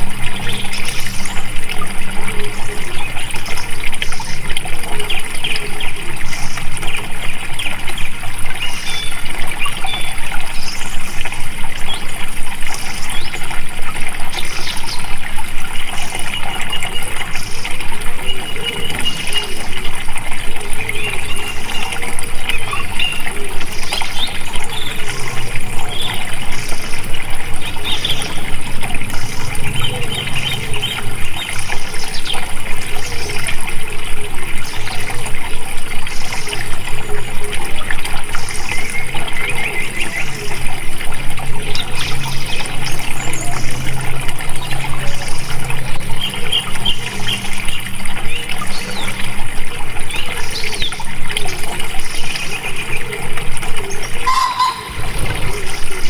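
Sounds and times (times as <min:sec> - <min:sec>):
birds chirping: 0:00.0 - 0:12.3, 0:13.0 - 0:33.7, 0:38.4 - 0:49.3, 0:50.1 - 0:56.0
running water babbling: 0:00.0 - 0:56.0.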